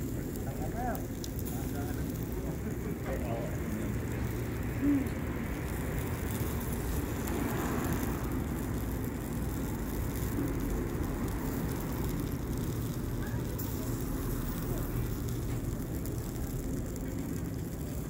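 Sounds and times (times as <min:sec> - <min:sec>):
low street rumble and hiss: 0:00.0 - 0:18.0.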